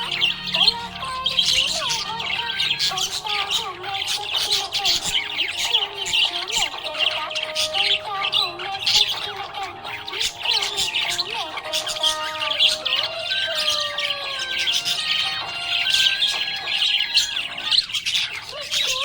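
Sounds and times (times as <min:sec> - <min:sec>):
melodic music: 0:00.0 - 0:18.3
budgerigars chirping: 0:00.0 - 0:19.0.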